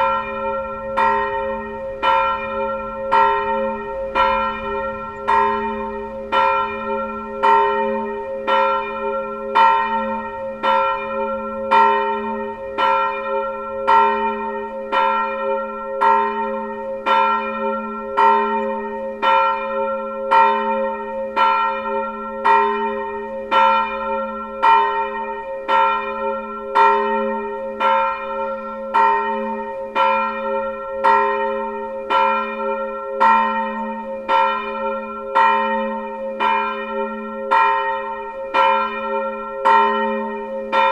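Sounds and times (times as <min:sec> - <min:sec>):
church bell ringing: 0:00.0 - 0:40.9.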